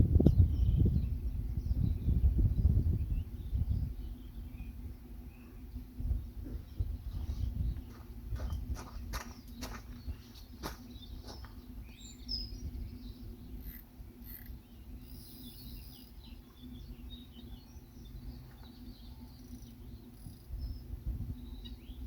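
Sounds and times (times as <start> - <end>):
low outdoor rumble: 0.0 - 22.0
steady low hum: 0.0 - 22.0
small birds chirping: 0.1 - 22.0.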